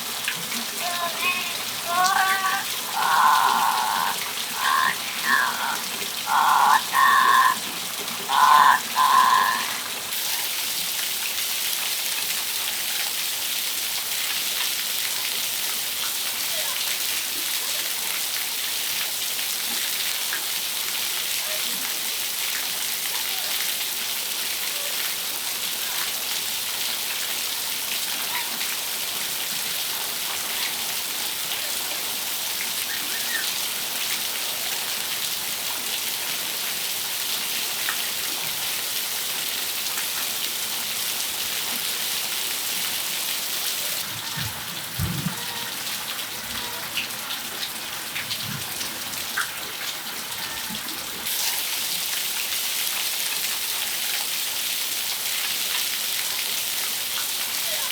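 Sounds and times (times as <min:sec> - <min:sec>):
rain falling on a patio: 0:00.0 - 0:57.9.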